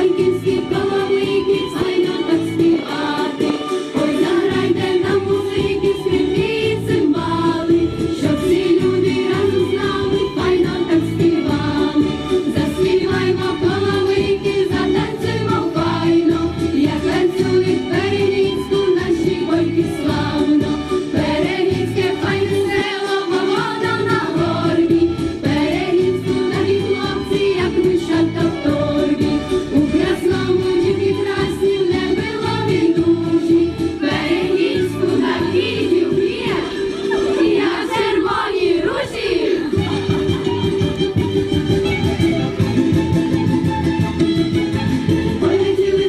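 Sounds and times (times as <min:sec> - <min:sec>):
children's choir singing folk song: 0:00.0 - 0:41.6, 0:44.3 - 0:46.0
musical accompaniment: 0:00.0 - 0:46.0.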